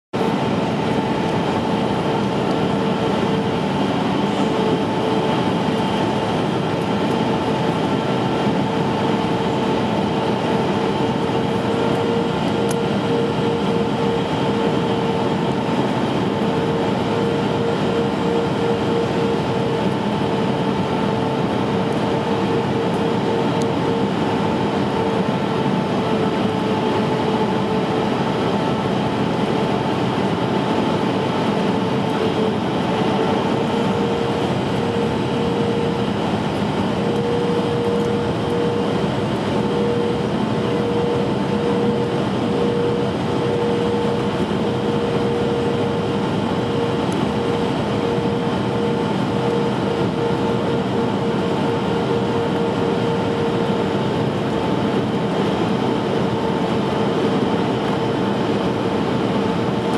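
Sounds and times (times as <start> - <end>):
airplane cabin roar: 0.1 - 59.9
jet engine whine: 0.1 - 59.9.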